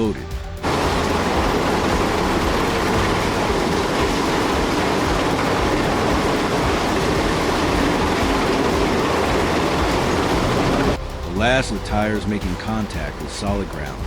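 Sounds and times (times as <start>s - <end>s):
heavy machinery rumbling and rattling: 0.6s - 14.0s.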